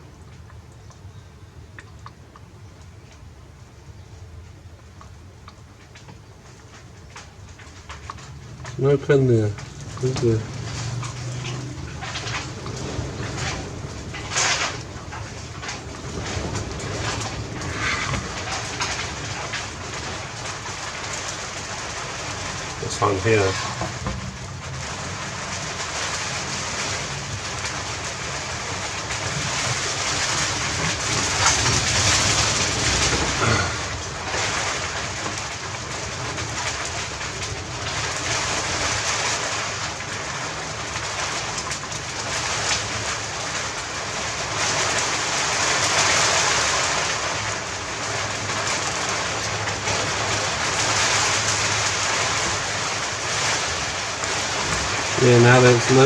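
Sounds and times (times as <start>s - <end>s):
steady rushing noise: 8.2s - 56.0s.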